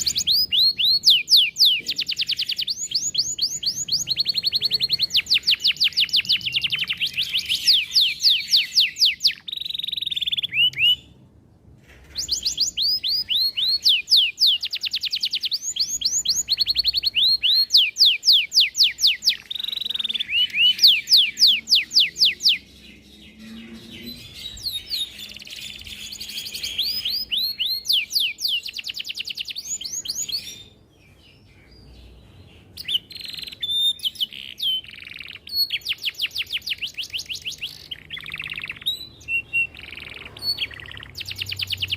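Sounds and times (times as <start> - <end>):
canary singing rolling trills: 0.0 - 41.9.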